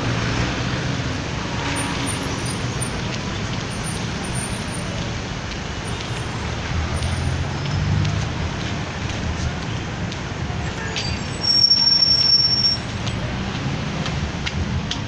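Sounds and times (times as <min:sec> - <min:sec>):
street traffic: 0:00.0 - 0:15.0
vehicle engine rumbling: 0:00.0 - 0:15.0.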